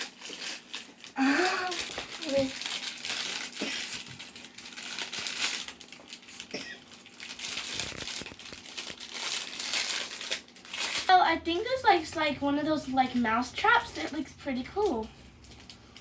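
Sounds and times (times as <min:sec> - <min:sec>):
plastic wrapper crinkling and tearing: 0:00.0 - 0:16.0.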